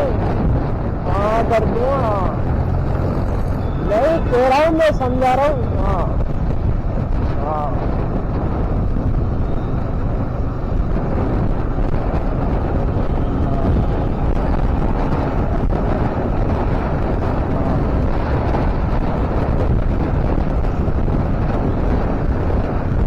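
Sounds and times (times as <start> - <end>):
road and vehicle noise: 0.0 - 23.0
wind buffeting microphone: 0.0 - 23.0.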